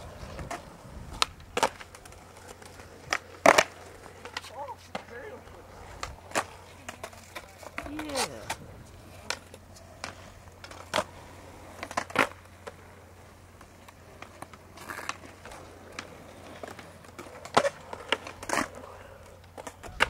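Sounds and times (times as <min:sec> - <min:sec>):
skateboard clacks on concrete: 0:00.0 - 0:20.0
skateboard wheels rolling: 0:00.0 - 0:20.0.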